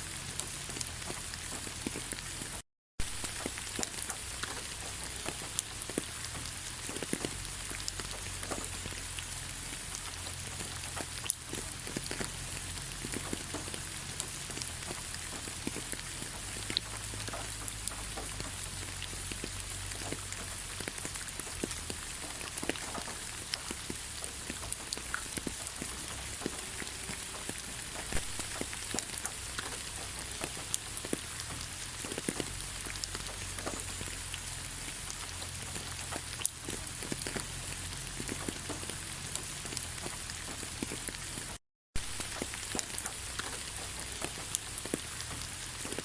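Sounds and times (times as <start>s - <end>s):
rain falling: 0.0s - 46.0s
raindrops pattering: 0.0s - 46.0s.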